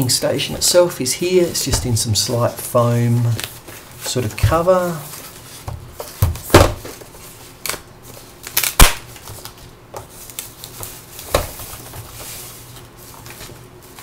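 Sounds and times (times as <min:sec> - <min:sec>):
foam wrap rustling and crinkling: 0:01.3 - 0:14.0.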